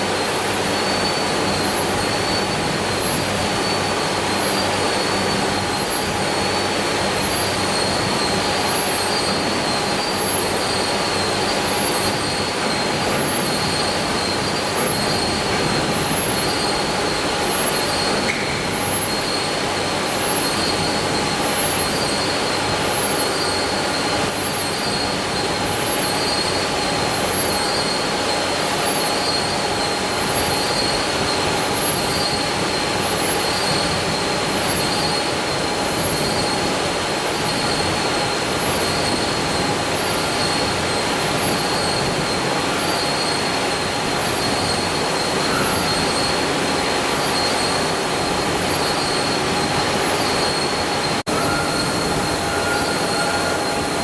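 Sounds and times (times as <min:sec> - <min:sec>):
metal slitting machine running: 0:00.0 - 0:54.0
pulsing very high tone: 0:00.0 - 0:54.0.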